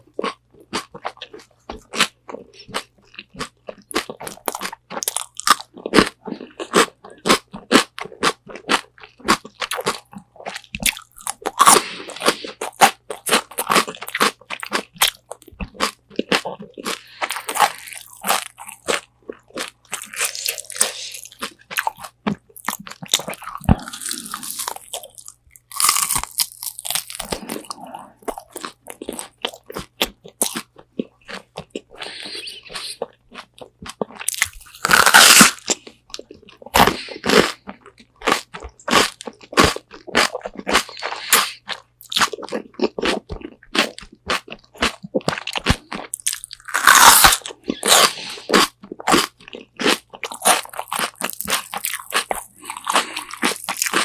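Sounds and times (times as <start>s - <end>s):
crunching and chewing fried chicken: 0.0s - 54.0s.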